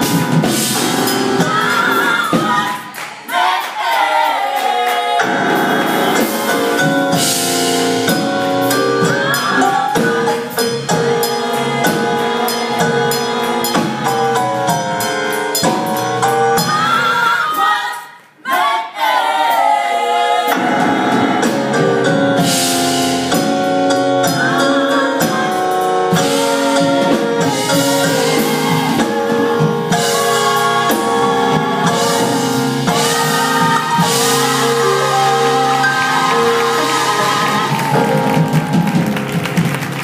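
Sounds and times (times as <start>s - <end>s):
gospel choir singing in harmony: 0.0s - 39.3s
drums and instruments: 0.0s - 40.0s.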